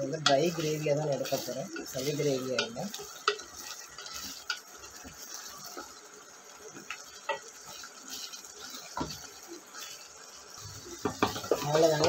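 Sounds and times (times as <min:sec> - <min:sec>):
gravy sizzling and bubbling: 0:00.0 - 0:12.0
wooden spatula scraping a pot: 0:00.0 - 0:12.0.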